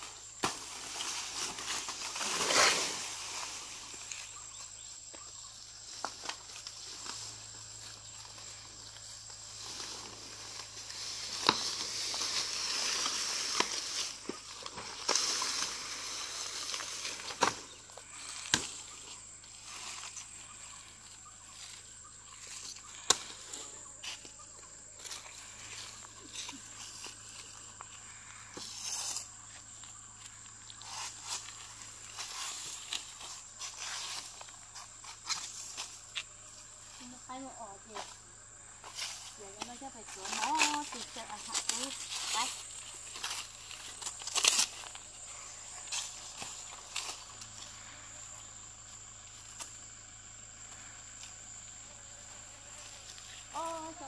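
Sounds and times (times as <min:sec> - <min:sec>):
banana leaves rustling: 0:00.0 - 0:54.0.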